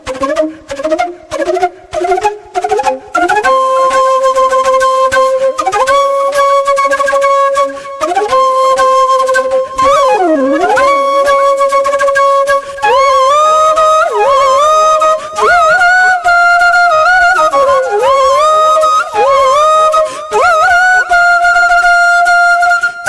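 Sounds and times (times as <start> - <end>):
solo flute melody: 0.0 - 23.0.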